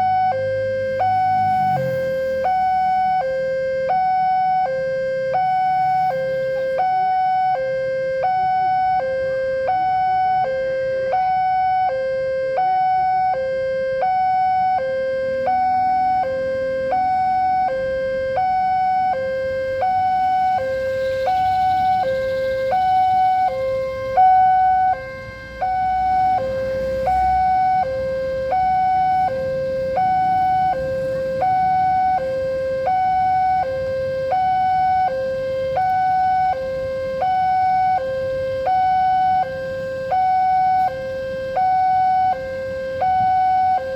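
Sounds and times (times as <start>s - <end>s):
level crossing two-tone alarm: 0.0s - 43.9s.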